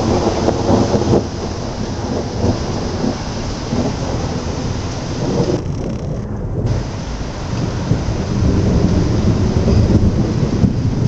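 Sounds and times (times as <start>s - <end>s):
steady rain: 0.0s - 11.0s
thunder rumbling: 0.0s - 11.0s.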